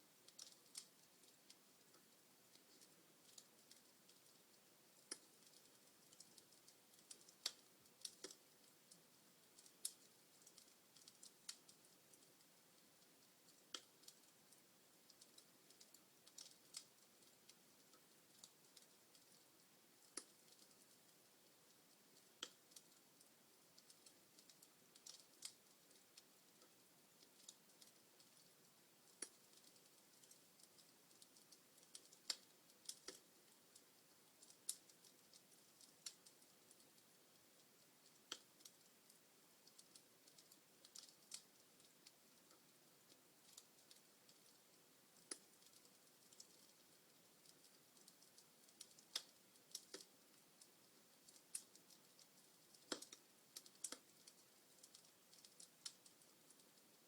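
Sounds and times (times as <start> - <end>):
faint fire hiss: 0.0 - 57.0
log fire crackling: 0.0 - 57.0.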